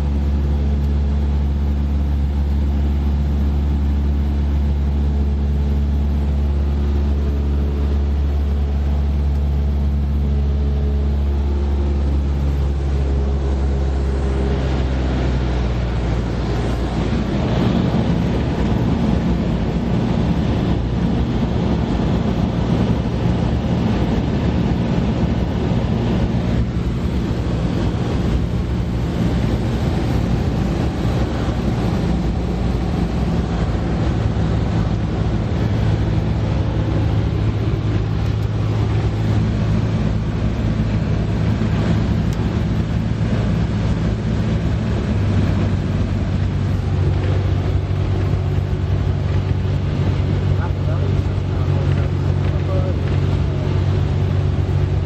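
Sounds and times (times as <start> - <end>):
aircraft engine and propeller droning: 0.0 - 55.0.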